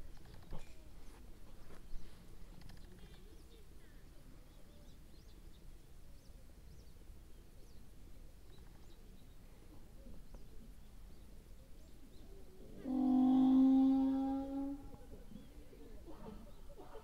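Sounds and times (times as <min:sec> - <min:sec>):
low steady outdoor rumble: 0:00.0 - 0:17.0
small birds chirping faintly: 0:00.0 - 0:17.0.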